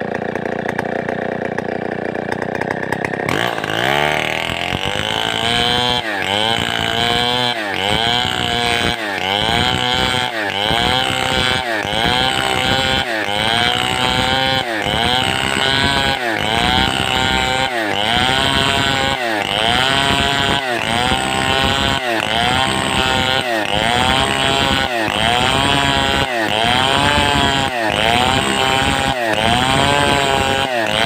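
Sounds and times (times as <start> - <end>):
chainsaw cutting: 0.0 - 31.0.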